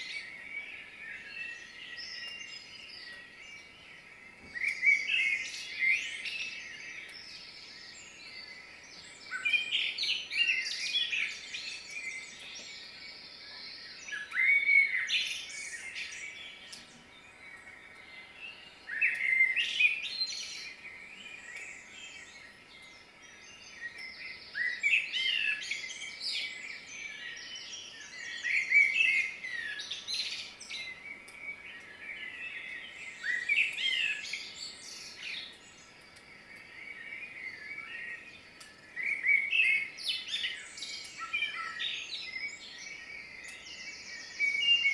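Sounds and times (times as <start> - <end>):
songbird whistles and trills: 0.0 - 44.9.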